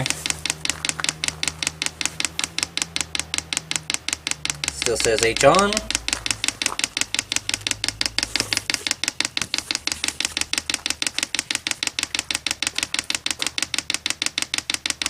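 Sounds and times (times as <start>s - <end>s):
fuel pump rapid clicking: 0.0s - 15.0s.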